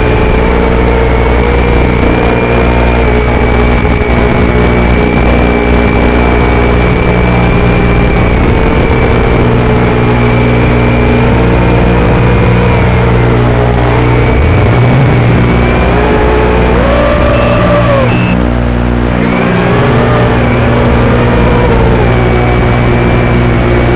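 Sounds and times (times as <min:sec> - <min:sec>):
electrical buzz and whine: 0:00.0 - 0:23.9.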